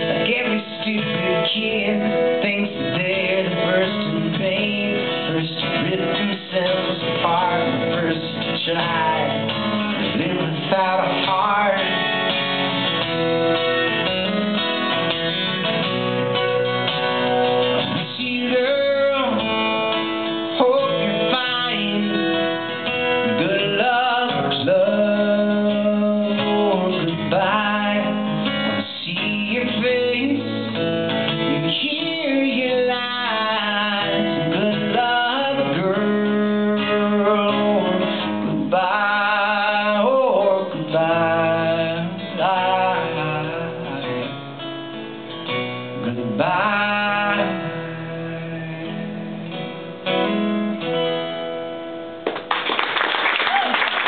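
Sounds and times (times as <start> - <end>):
acoustic guitar strumming: 0.0 - 52.5.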